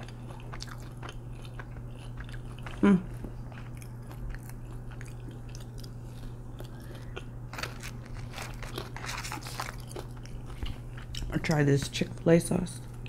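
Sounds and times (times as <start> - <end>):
chewing fries: 0.0 - 13.0
low hum: 0.0 - 13.0.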